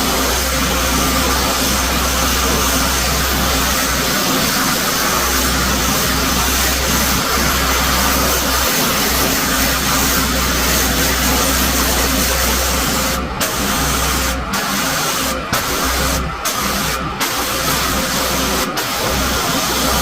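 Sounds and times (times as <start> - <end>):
high-pressure water spray hissing: 0.0 - 20.0
pressure washer hum: 0.0 - 20.0.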